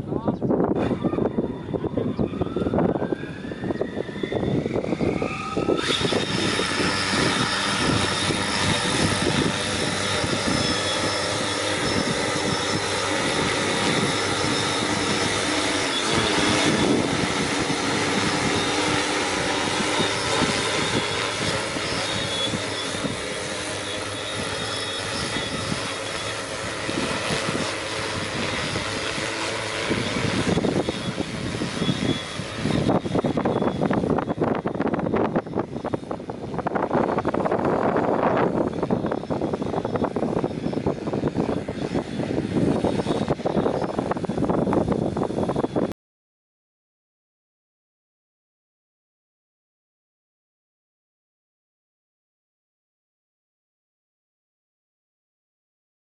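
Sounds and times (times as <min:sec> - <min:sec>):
drone propellers rushing: 0:00.1 - 0:45.9
drone motors whining: 0:00.6 - 0:45.9.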